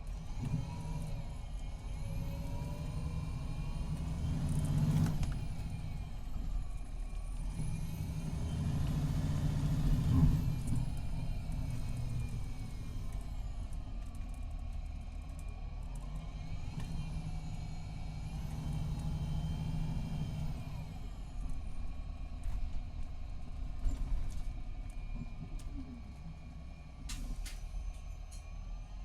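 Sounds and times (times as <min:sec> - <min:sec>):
diesel bus engine rumble: 0:00.0 - 0:29.0.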